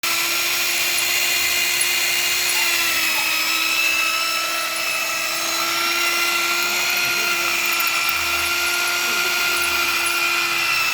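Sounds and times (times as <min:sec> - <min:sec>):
electric drill whining: 0:00.0 - 0:10.9.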